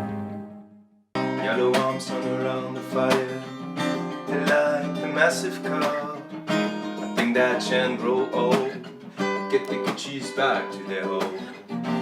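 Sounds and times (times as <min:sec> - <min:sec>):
acoustic guitar strumming: 0:00.0 - 0:12.0
pop song playing: 0:01.2 - 0:11.6.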